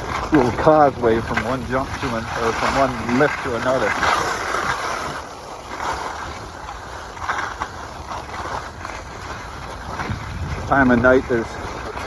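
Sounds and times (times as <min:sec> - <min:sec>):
skis sliding over snow: 0:00.0 - 0:12.0
swishing ski scrape: 0:00.0 - 0:12.0.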